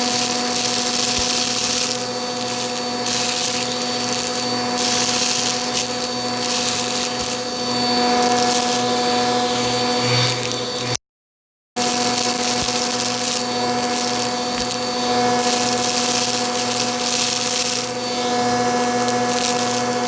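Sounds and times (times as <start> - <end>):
vacuum cleaner running: 0.0 - 11.0, 11.8 - 20.0.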